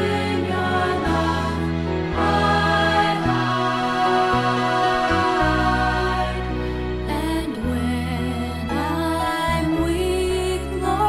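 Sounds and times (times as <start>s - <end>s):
slow worship music: 0.0s - 11.0s.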